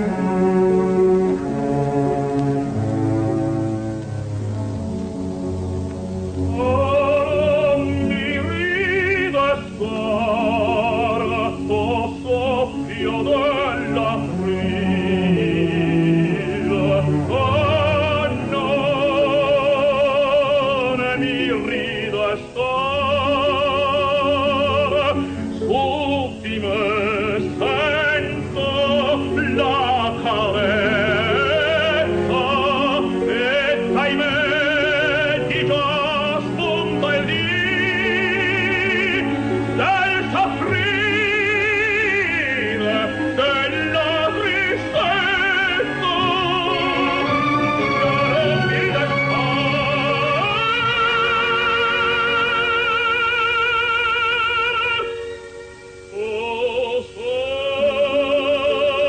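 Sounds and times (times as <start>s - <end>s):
instrumental accompaniment: 0.0s - 59.0s
operatic singing with vibrato: 0.0s - 59.0s.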